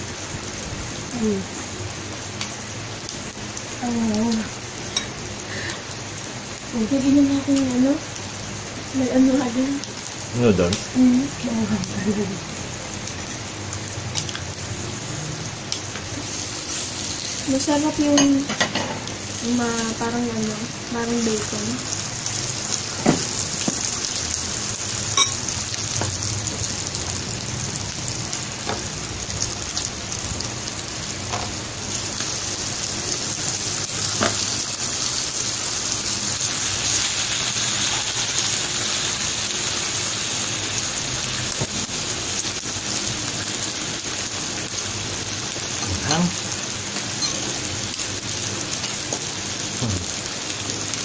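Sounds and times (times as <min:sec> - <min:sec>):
meat sizzling on a grill: 0:00.0 - 0:51.0.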